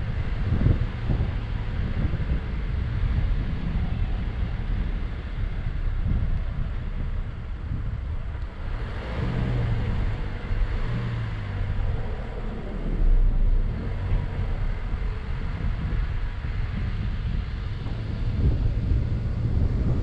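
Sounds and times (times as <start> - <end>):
car engine: 0.0 - 20.0
tyres rumbling on sand: 0.0 - 20.0
wind: 0.0 - 20.0.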